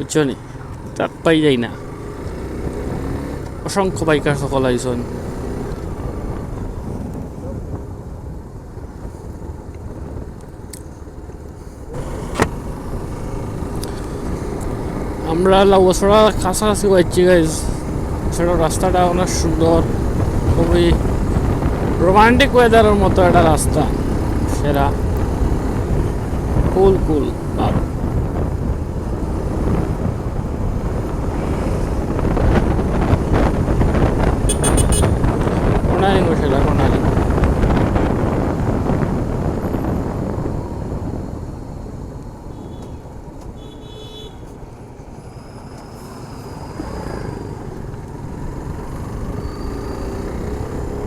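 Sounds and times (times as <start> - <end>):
motorcycle engine and road noise: 0.0 - 51.0
wind buffeting microphone: 1.8 - 43.4.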